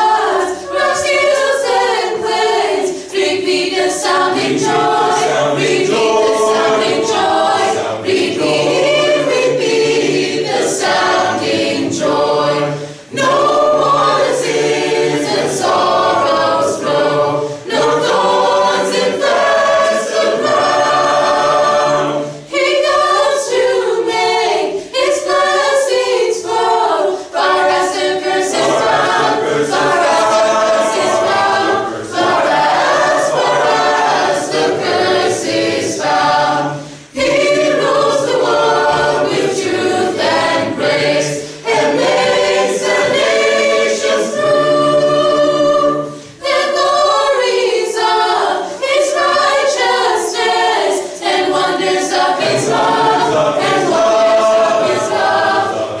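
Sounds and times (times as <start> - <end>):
mixed-voice choir singing: 0.0 - 56.0.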